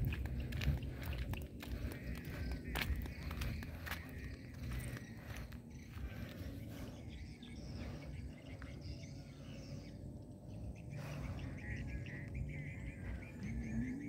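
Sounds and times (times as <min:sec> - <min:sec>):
birds chirping: 0:00.0 - 0:14.0
low outdoor rumble: 0:00.0 - 0:14.0.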